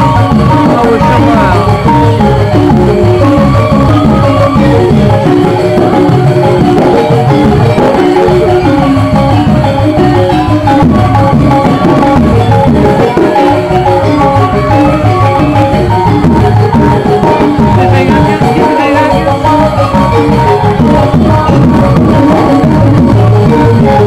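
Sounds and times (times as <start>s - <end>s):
gamelan music: 0.0s - 24.0s
steady drumming: 0.0s - 24.0s.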